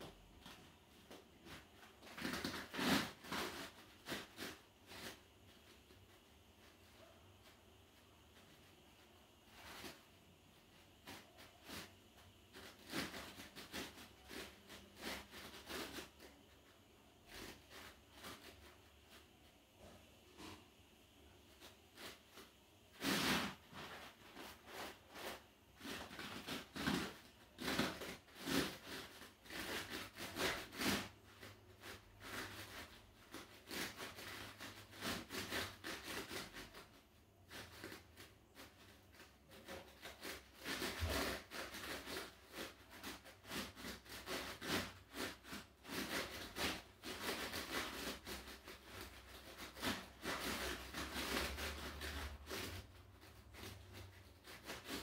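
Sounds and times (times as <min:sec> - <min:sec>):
movement on rubber disc: 0:00.0 - 0:55.0.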